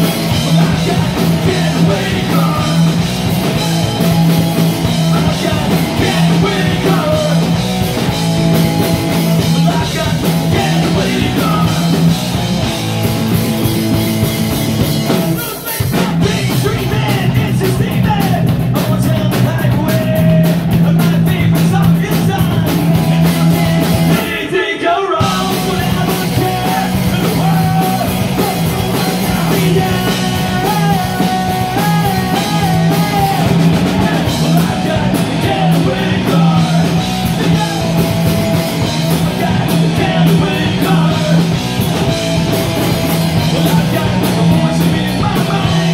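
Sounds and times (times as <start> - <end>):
shouted lead vocal: 0.0 - 12.8, 15.1 - 45.9
distorted electric guitar: 0.0 - 24.4, 25.2 - 45.9
bass guitar: 0.0 - 24.5, 25.2 - 45.9
drum kit: 0.0 - 24.6, 25.2 - 45.9.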